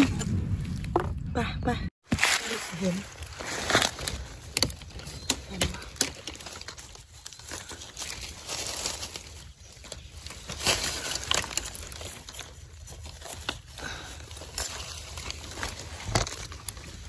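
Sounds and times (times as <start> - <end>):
dry leaves crackling and rustling: 2.0 - 17.0.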